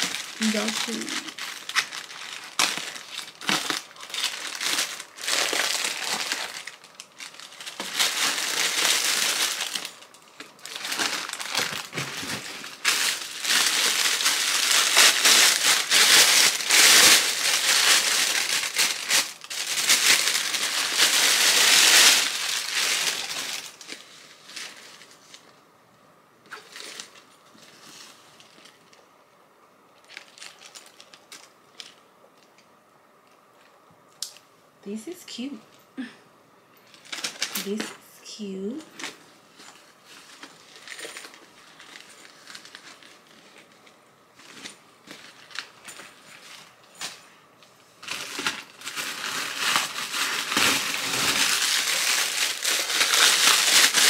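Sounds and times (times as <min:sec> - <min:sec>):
plastic wrapping crinkling: 0:00.0 - 0:25.6, 0:26.4 - 0:29.0, 0:30.0 - 0:32.6, 0:36.8 - 0:38.0, 0:38.7 - 0:54.0.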